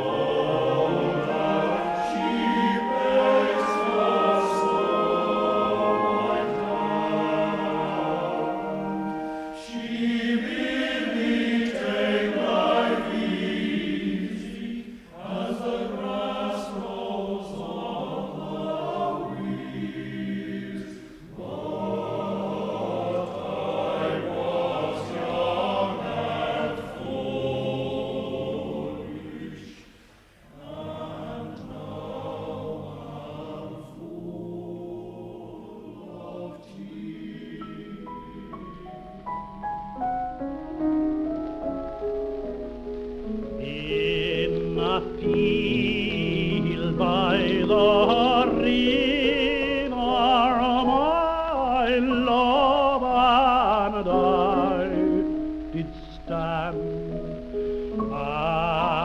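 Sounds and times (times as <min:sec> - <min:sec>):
choir singing a folk song: 0:00.0 - 0:40.2, 0:43.6 - 0:57.1, 0:57.8 - 0:59.0.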